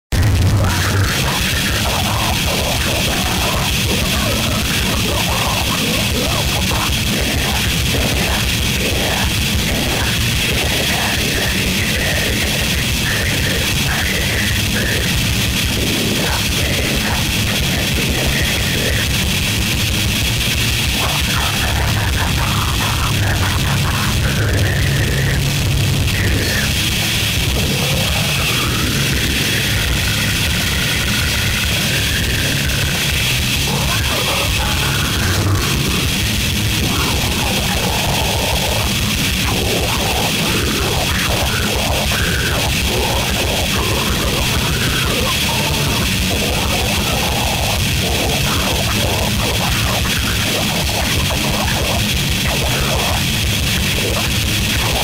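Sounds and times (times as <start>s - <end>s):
fast low pulse: 0.0s - 55.0s
harsh distorted noise: 0.0s - 55.0s.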